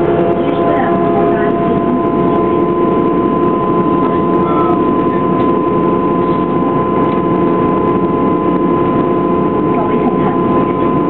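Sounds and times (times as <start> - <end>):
boat engine drone with high whine: 0.0 - 11.0.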